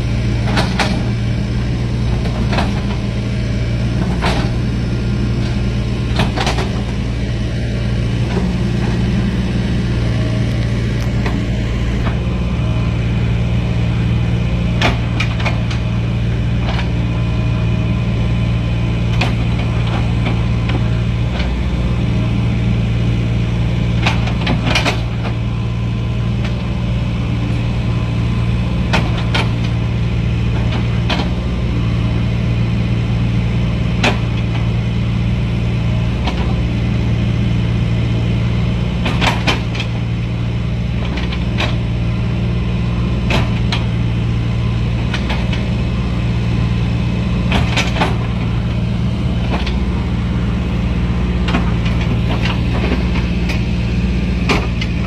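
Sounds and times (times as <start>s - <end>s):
excavator diesel engine humming: 0.0s - 55.0s.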